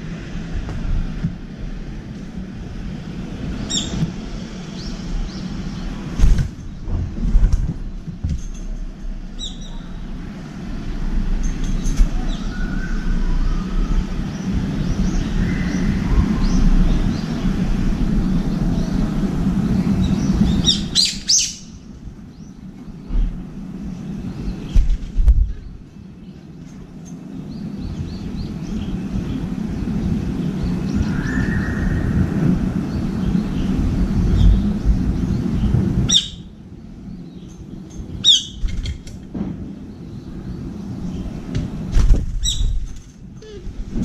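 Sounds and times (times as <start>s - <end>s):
small birds chirping: 3.4s - 6.9s, 9.2s - 39.0s, 39.8s - 43.8s.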